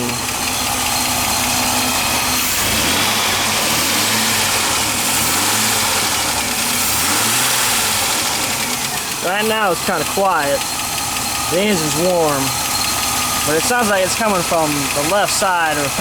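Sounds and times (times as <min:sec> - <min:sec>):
engine idling with light knock: 0:00.0 - 0:16.0.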